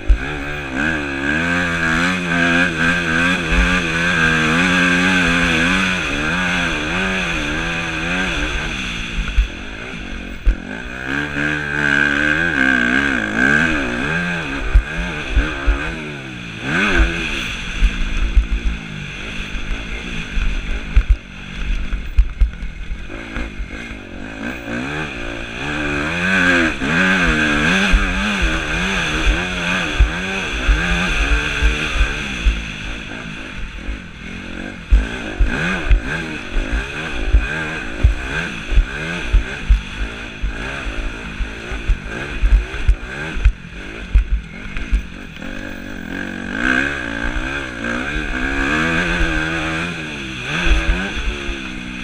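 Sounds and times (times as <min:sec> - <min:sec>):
motocross engine revving: 0:00.0 - 0:52.0.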